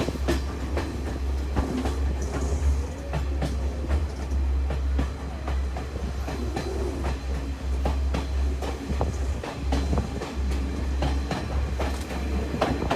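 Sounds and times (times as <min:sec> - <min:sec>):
train rumble: 0:00.0 - 0:12.9
train wheels clattering on rails: 0:00.0 - 0:12.9.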